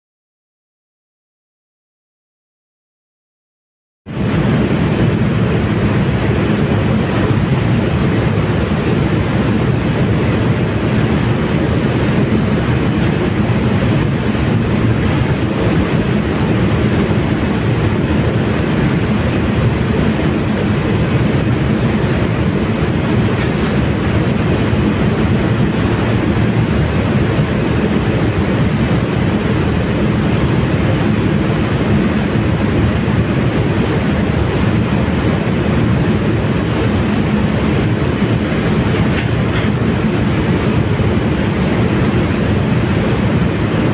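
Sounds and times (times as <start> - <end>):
engine room machinery drone: 4.1 - 43.9.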